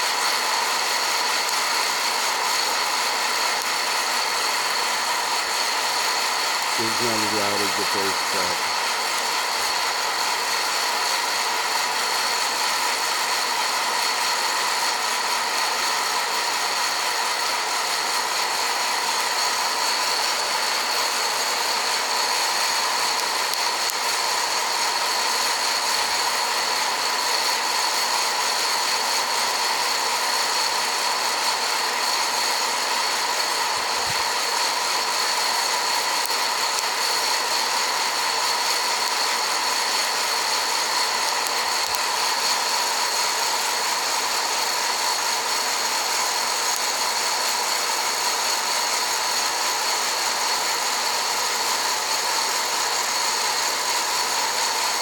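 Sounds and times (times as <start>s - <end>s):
popcorn popper fan whirring: 0.0s - 55.0s.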